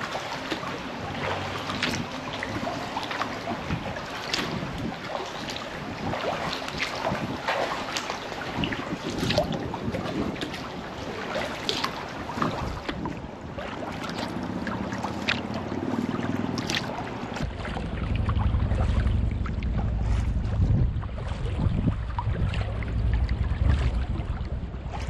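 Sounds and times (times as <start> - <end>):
low wind rumble on microphone: 0.0 - 25.0
water splashing around kayak: 0.0 - 25.0.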